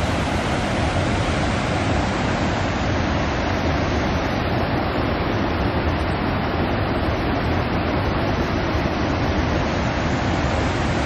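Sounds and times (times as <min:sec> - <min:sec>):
river water rushing over a weir: 0:00.0 - 0:11.0.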